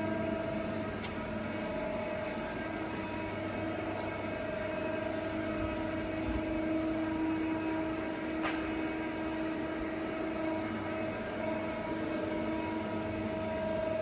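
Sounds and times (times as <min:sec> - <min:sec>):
lathe mechanical hum and whine: 0:00.0 - 0:14.0.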